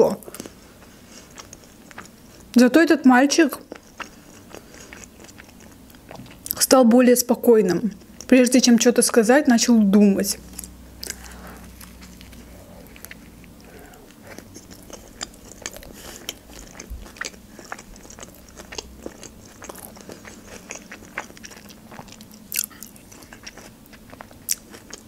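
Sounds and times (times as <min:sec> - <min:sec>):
person chewing food: 0:00.2 - 0:02.6, 0:03.6 - 0:06.6, 0:07.7 - 0:08.4, 0:10.4 - 0:25.0.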